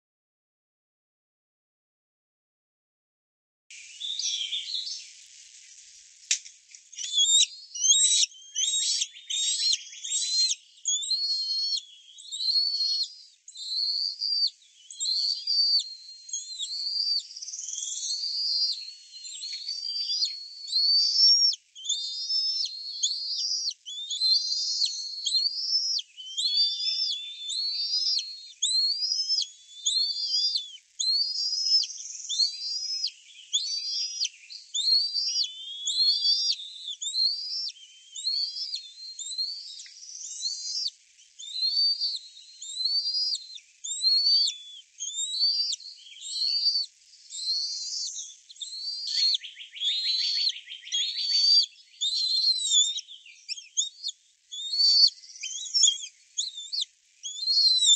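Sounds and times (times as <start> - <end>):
eagle whistled calls: 3.8 - 5.3, 6.3 - 57.9.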